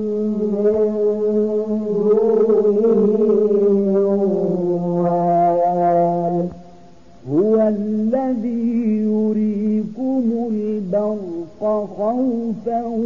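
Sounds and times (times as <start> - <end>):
voice chanting recitation: 0.0 - 13.0.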